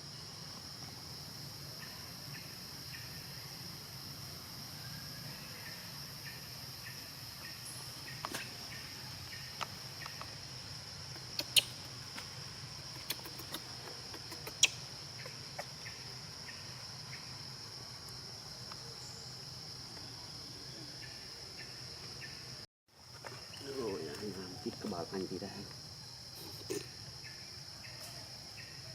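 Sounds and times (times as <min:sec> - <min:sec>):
insect chorus: 0:00.0 - 0:28.9.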